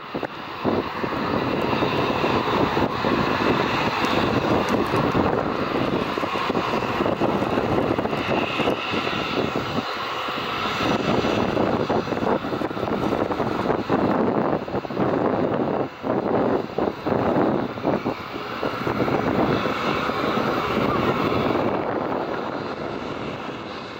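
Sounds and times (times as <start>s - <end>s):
jet engines rumbling at takeoff: 0.0s - 23.9s.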